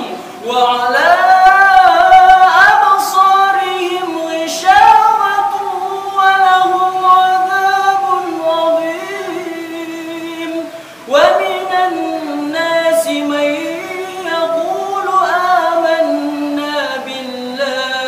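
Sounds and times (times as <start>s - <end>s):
person chanting melodiously: 0.0s - 18.0s.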